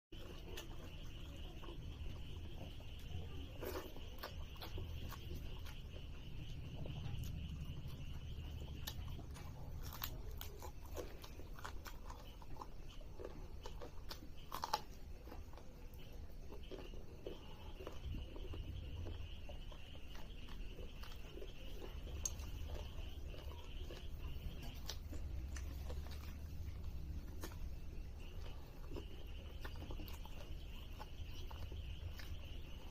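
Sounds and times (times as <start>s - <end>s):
person chewing and crunching: 0.2s - 32.9s.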